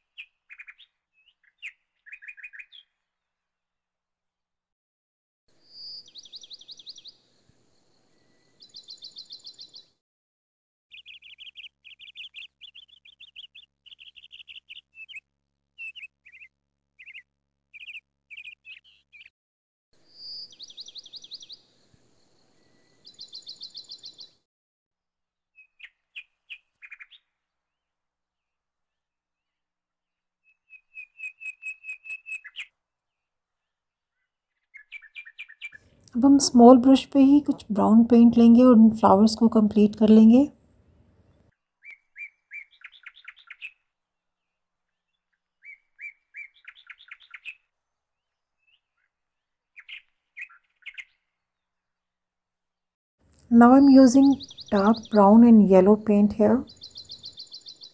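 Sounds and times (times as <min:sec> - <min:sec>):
birdsong chirps and trills: 0:00.0 - 0:03.2, 0:05.6 - 0:10.0, 0:10.9 - 0:19.3, 0:20.0 - 0:24.4, 0:25.6 - 0:27.5, 0:30.4 - 0:52.0, 0:53.5 - 0:57.9.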